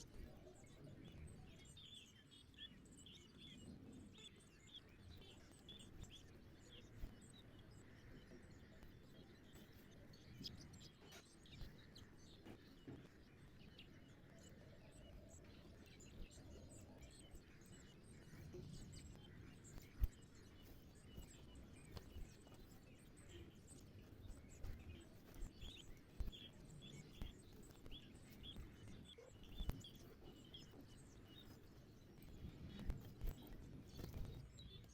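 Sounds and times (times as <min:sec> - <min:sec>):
faint sparrow chirps: 0:00.0 - 0:34.9
low background noise: 0:00.0 - 0:34.9.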